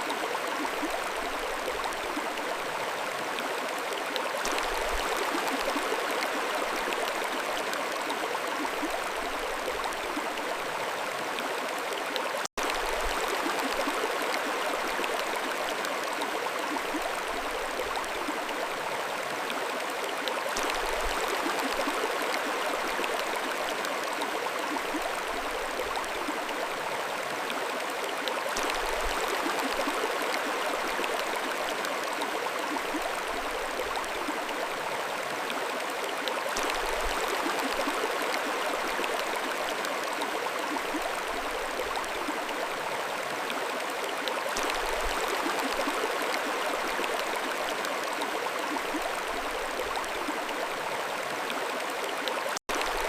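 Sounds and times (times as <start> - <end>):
stream rushing over stones: 0.0 - 53.0.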